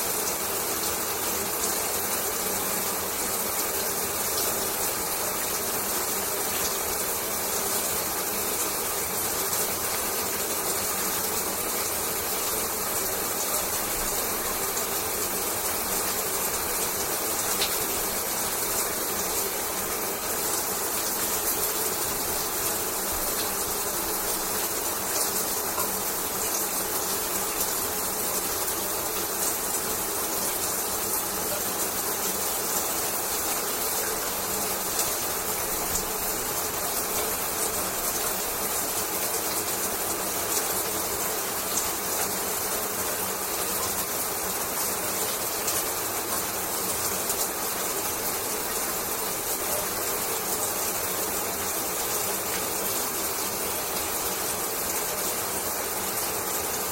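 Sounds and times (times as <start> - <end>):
shower water running: 0.0 - 56.9.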